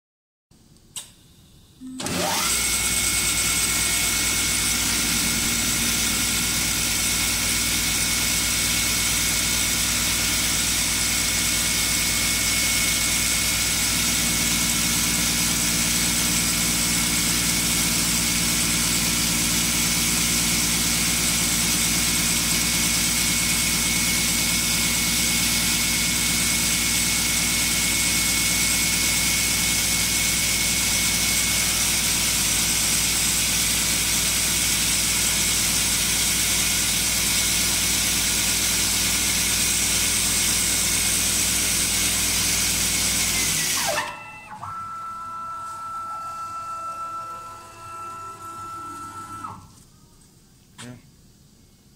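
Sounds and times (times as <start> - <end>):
wood lathe running with whine: 2.0 - 49.8.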